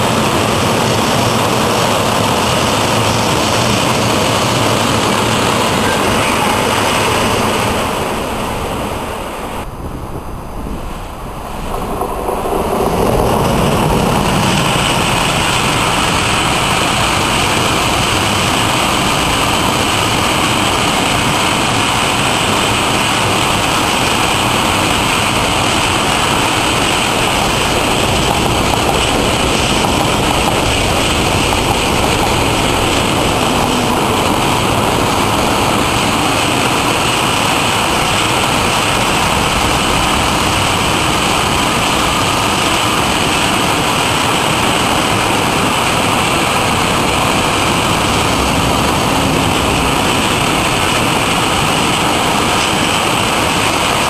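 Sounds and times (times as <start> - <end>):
electric train passing: 0.0 - 54.0
freight train wheels rumbling: 0.0 - 54.0.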